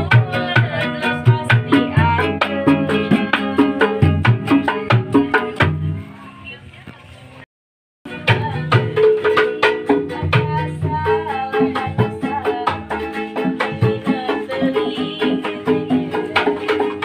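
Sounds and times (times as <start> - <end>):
hand drum rhythm: 0.0 - 6.0, 8.1 - 17.0
person singing: 0.0 - 6.1, 8.1 - 17.0
plucked string instrument: 0.0 - 6.4, 8.1 - 17.0.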